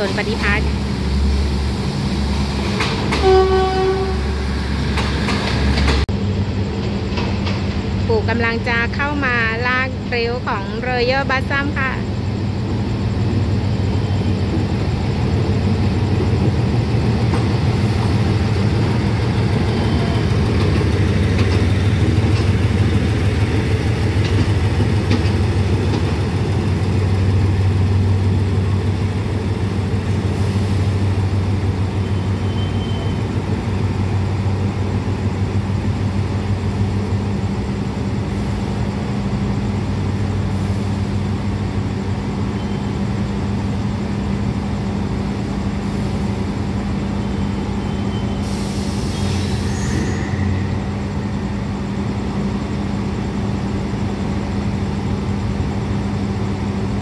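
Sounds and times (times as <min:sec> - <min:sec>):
diesel locomotive engine idling: 0:00.0 - 0:49.6.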